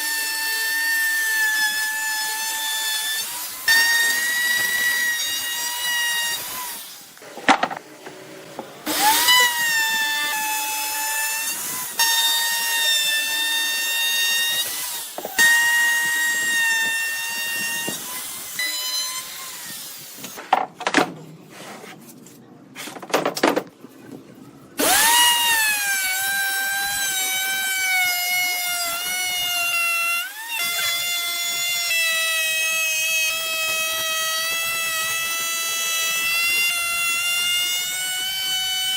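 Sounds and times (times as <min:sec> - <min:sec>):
power tool motor whining: 0:00.0 - 0:20.4, 0:24.8 - 0:38.9.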